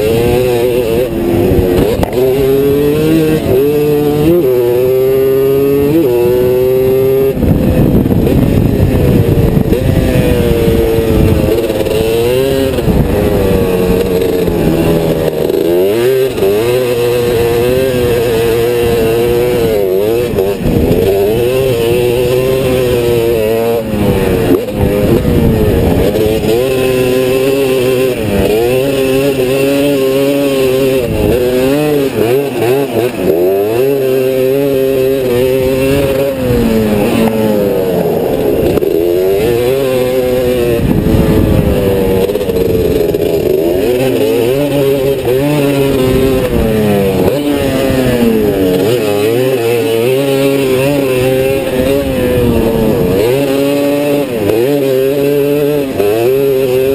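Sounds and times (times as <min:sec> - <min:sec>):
racing engine revving: 0:00.0 - 0:56.9.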